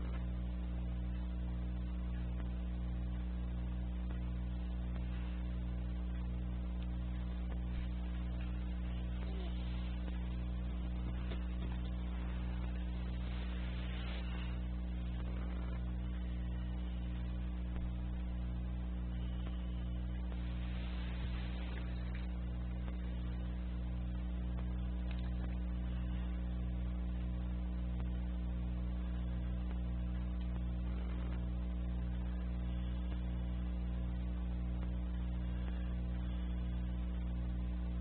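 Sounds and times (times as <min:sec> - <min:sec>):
low pulsing electrical hum: 0:00.0 - 0:38.0.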